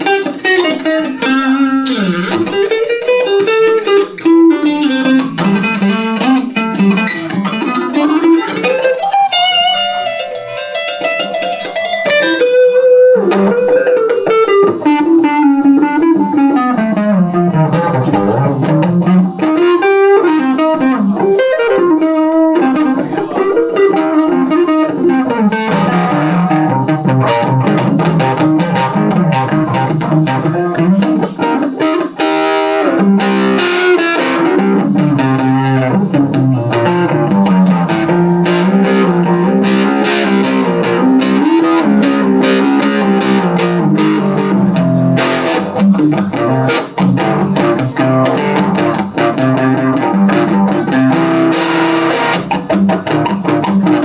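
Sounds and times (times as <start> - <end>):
electric guitar picked notes and chords: 0.0 - 54.0.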